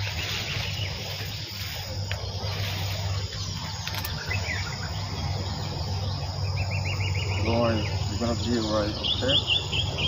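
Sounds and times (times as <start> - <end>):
constant low hum: 0.0 - 10.0
insects chirring: 0.0 - 10.0.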